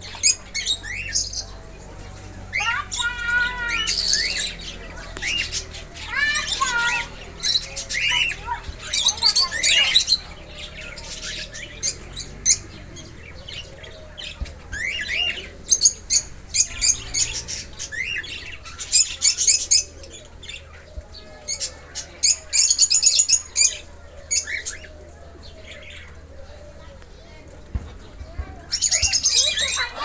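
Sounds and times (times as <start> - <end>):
cockatiels chirping and squawking: 0.1 - 1.6, 2.5 - 25.0, 28.4 - 30.0.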